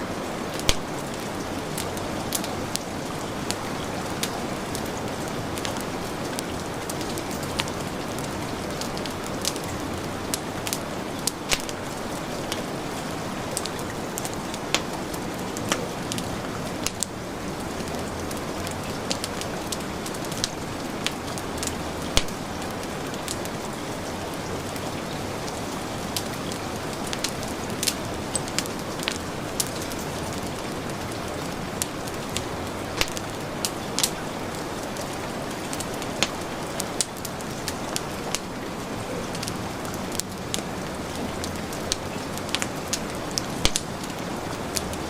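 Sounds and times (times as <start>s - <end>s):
fireplace fire crackling: 0.0s - 45.0s
heavy rain: 0.0s - 45.0s.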